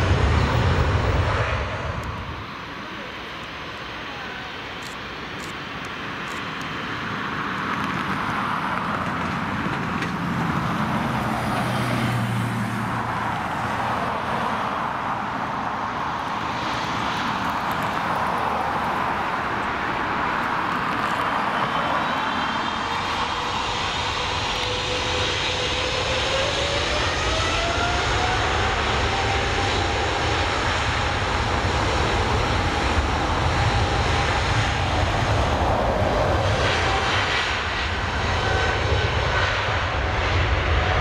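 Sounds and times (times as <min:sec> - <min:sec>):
jet engine rumble and hiss: 0:00.0 - 0:41.0
rising jet whine: 0:00.0 - 0:41.0.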